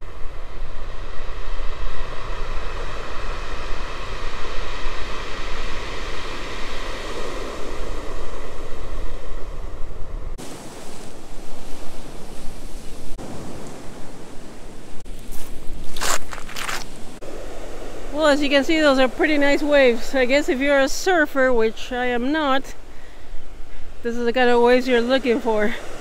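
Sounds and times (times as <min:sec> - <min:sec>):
quiet outdoor ambience: 0:00.0 - 0:26.0
wind rumbling on microphone: 0:00.0 - 0:26.0
ocean waves breaking on stony shore: 0:00.5 - 0:09.6, 0:10.3 - 0:26.0.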